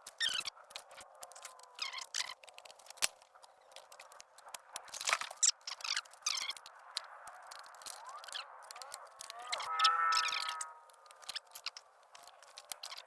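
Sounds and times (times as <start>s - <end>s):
sharp clicks: 0.0s - 13.0s.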